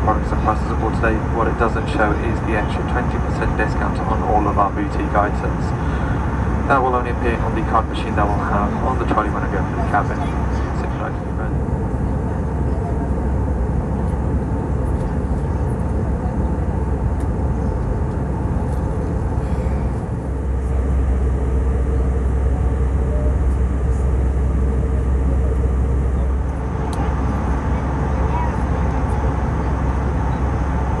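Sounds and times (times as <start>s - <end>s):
airplane cabin drone: 0.0s - 31.0s.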